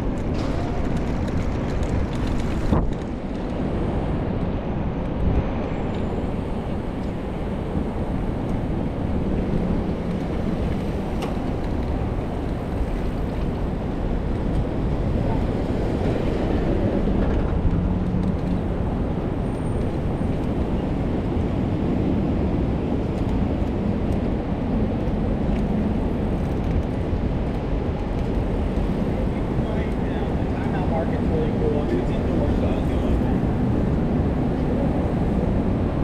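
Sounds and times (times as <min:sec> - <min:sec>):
traffic rumble: 0:00.0 - 0:36.0
wind noise: 0:00.0 - 0:36.0.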